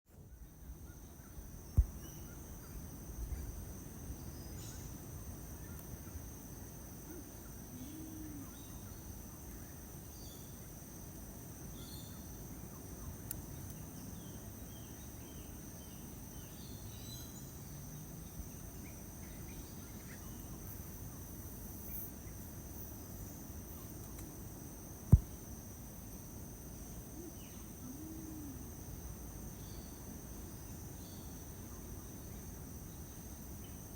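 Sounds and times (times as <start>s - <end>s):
high insect drone: 0.2s - 33.9s.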